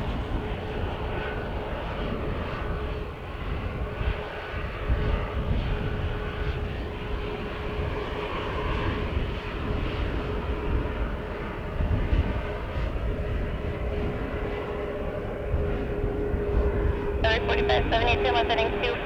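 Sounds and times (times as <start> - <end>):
aircraft engines running: 0.0 - 19.0
wind buffeting microphone: 0.0 - 19.0.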